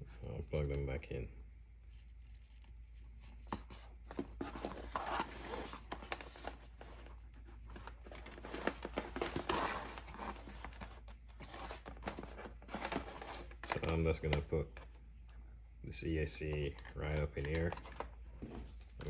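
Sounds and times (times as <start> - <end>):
hands rustling and crinkling: 1.9 - 15.0, 16.2 - 19.0.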